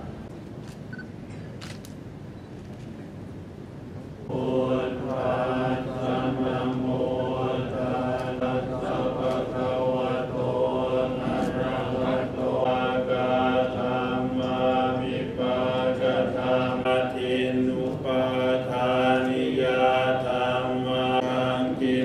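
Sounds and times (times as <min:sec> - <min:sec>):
monks chanting in unison: 0:04.2 - 0:22.0.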